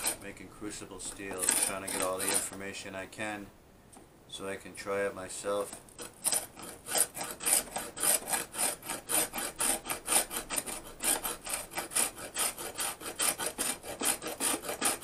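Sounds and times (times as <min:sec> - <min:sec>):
clay scraping on rasp file: 0:00.0 - 0:02.7, 0:05.6 - 0:15.0.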